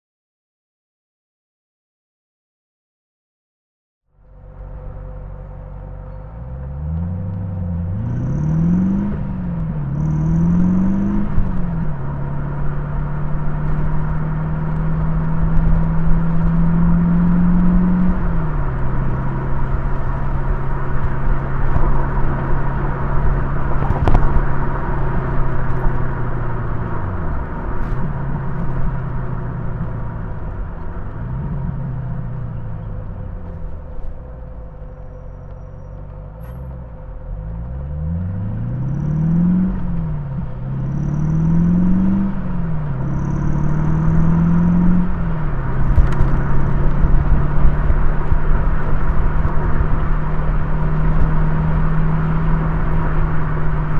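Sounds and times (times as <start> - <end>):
road rumble: 4.0 - 53.9
car engine revving: 4.1 - 53.9.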